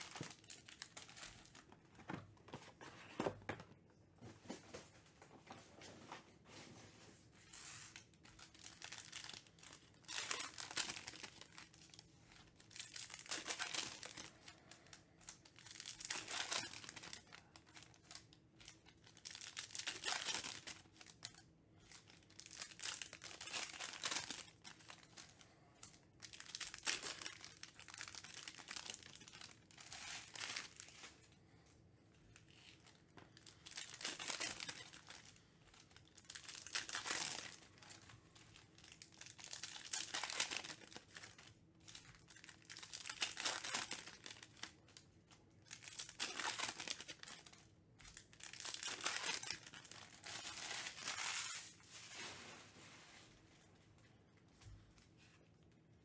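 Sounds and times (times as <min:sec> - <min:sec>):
plastic wrappers crinkling and tearing: 0:00.0 - 0:02.8, 0:07.3 - 0:31.4, 0:32.4 - 0:55.9.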